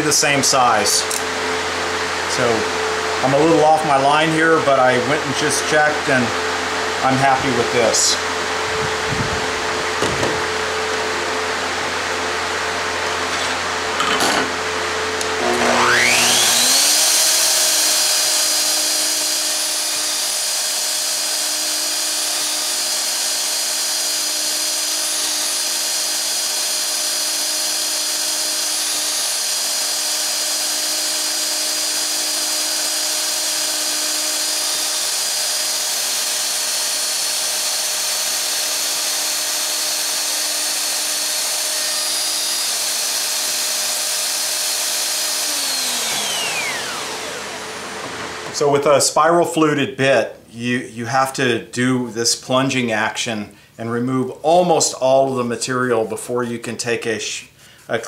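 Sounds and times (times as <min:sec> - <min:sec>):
router high whine cutting wood: 0:00.0 - 0:48.9.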